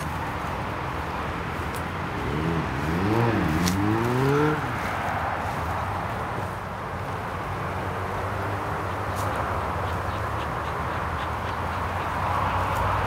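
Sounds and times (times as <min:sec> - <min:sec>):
road traffic noise: 0:00.0 - 0:13.0
vehicle accelerating: 0:00.0 - 0:13.0.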